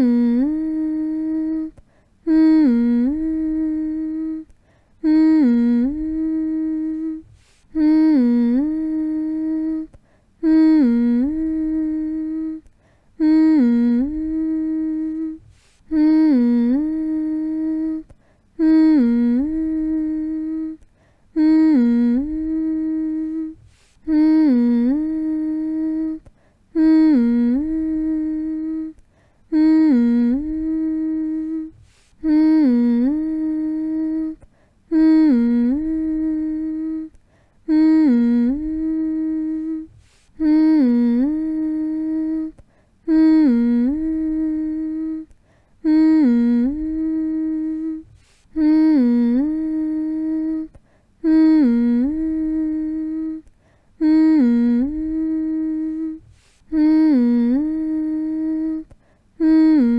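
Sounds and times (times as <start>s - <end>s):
person humming: 0.0s - 59.9s.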